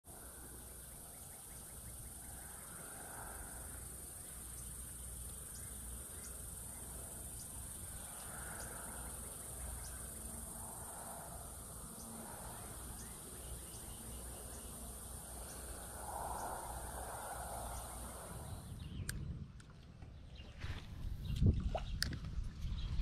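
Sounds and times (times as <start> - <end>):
insects chirping: 0.1 - 19.3.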